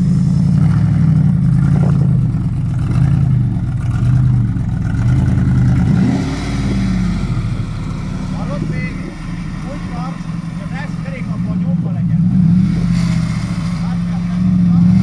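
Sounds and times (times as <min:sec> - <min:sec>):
engine revving under load: 0:00.0 - 0:15.0.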